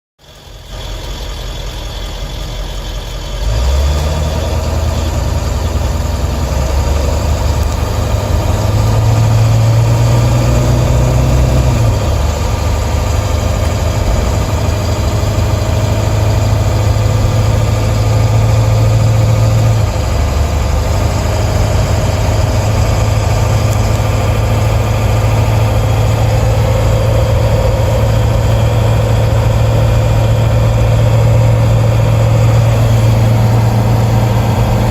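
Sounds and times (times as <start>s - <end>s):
diesel van engine driving: 0.2s - 34.9s.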